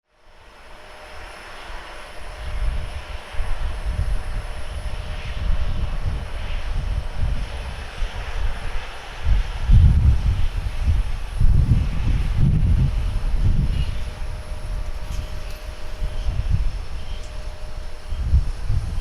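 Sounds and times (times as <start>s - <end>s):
jet engines running: 0.1s - 19.0s.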